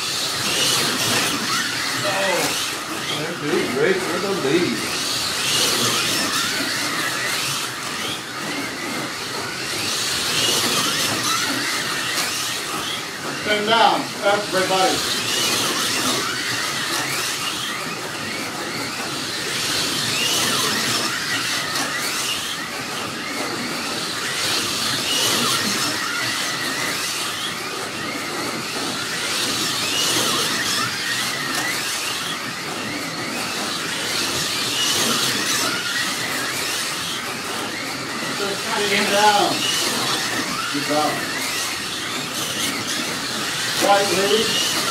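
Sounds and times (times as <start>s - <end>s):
slot cars electric motor whine: 0.0s - 44.9s.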